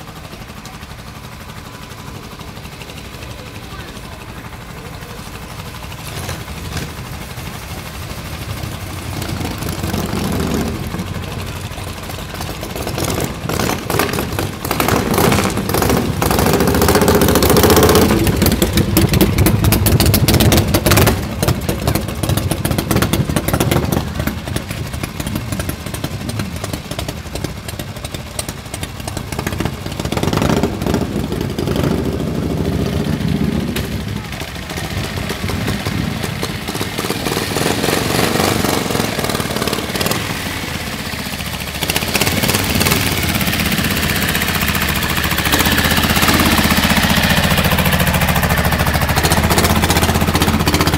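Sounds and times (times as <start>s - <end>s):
another engine: 0.0s - 50.9s.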